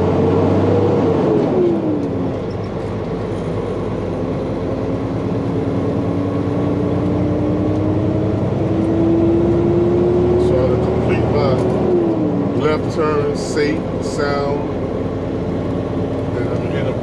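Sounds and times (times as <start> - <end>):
truck diesel engine accelerating: 0.0 - 17.0.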